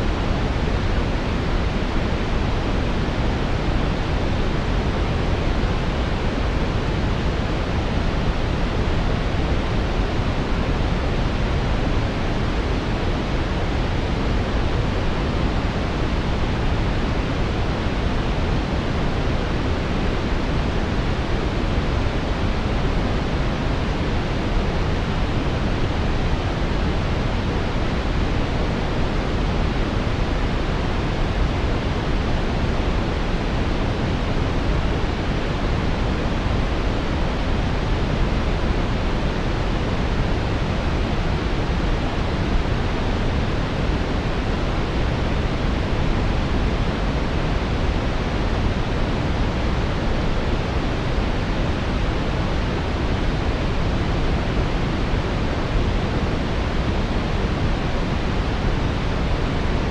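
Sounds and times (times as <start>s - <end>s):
brown noise hiss: 0.0s - 59.9s.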